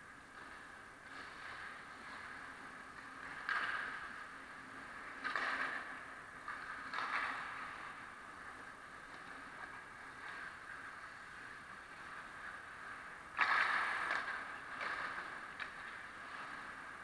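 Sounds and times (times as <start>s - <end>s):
skates scraping on ice: 0.0s - 17.0s.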